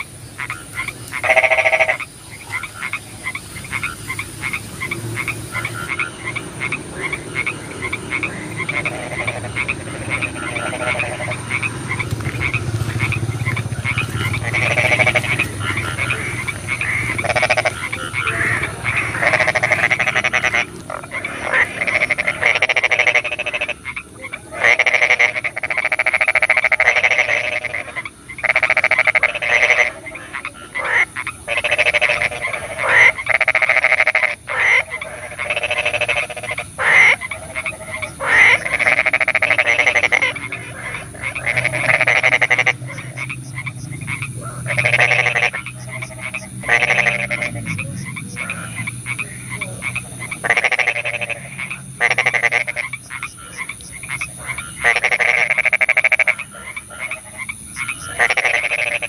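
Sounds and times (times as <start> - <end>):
frogs croaking: 0.0 - 59.0
high-pitched background hiss: 0.0 - 59.0.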